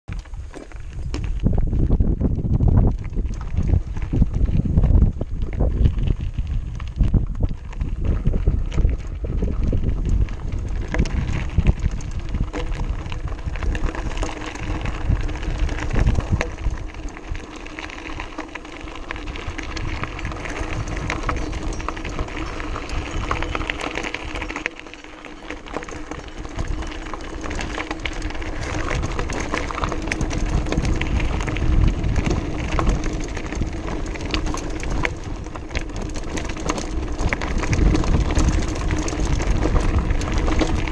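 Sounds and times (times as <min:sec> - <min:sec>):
bike rattling: 0:00.1 - 0:40.9
tyres crunching over gravel: 0:00.1 - 0:40.9
wind rumble on microphone: 0:00.1 - 0:40.9.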